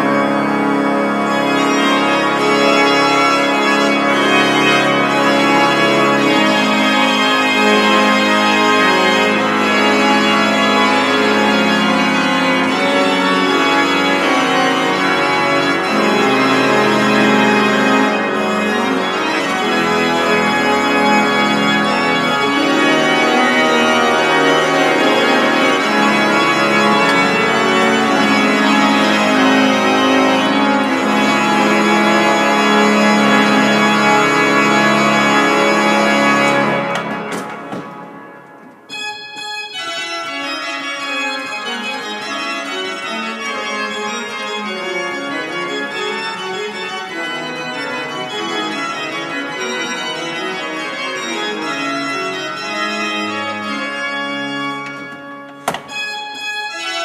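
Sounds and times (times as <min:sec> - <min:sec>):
pipe organ playing baroque music: 0:00.0 - 0:57.0.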